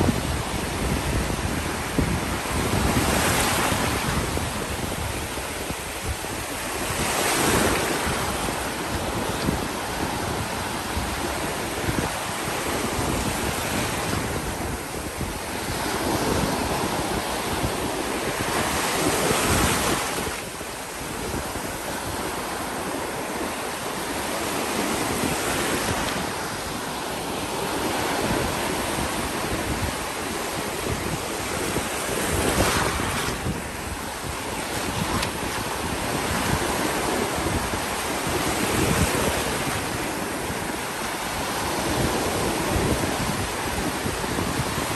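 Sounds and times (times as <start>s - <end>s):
ocean waves breaking: 0.0s - 44.9s
wind on microphone: 0.0s - 44.9s.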